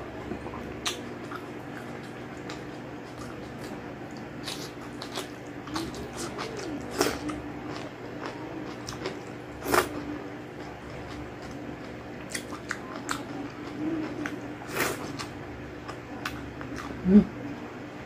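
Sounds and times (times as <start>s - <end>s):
steady low hum: 0.0s - 18.0s
chewing with wet mouth smacks: 0.3s - 17.0s.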